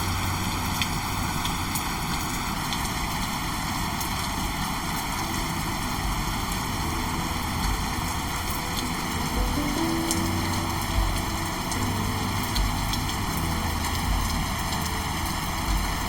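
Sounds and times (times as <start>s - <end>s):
wind and rain rushing: 0.0s - 16.0s.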